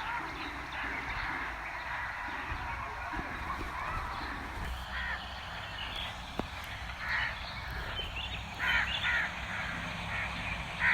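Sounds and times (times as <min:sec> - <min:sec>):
harsh animal calls: 0:00.0 - 0:10.9
steady low hum: 0:00.0 - 0:10.9.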